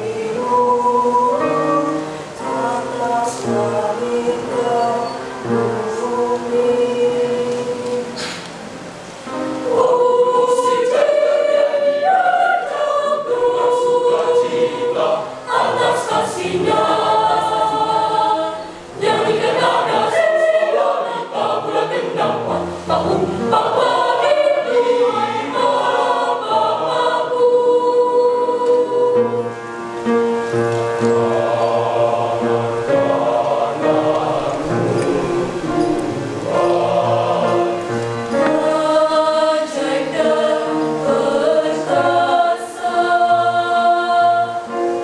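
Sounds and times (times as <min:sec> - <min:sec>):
choir singing: 0:00.0 - 0:45.0.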